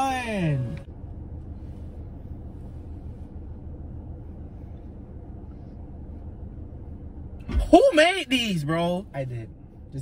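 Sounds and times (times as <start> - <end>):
low hum inside car cabin: 0.0 - 10.0.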